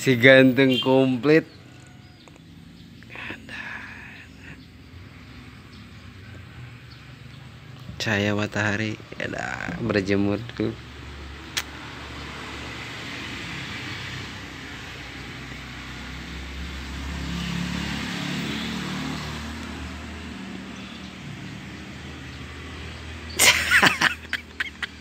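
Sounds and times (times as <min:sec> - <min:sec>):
distant road traffic hum: 0:00.0 - 0:25.0.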